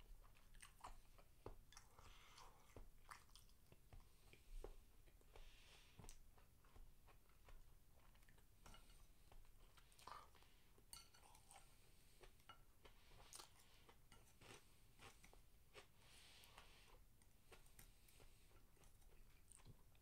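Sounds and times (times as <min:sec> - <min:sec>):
faint chewing: 0:00.0 - 0:20.0.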